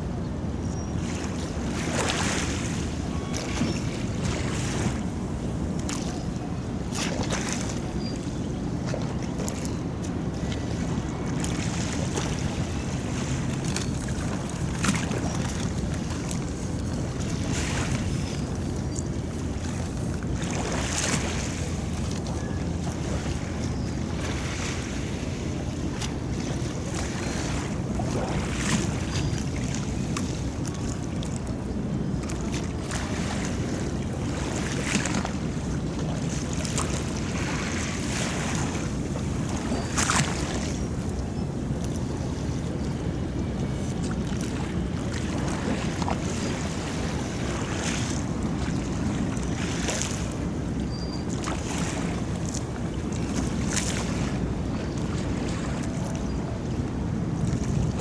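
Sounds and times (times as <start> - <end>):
water lapping against quay: 0.0 - 58.0
wind rumble on microphone: 0.0 - 58.0
water splashes: 1.0 - 58.0.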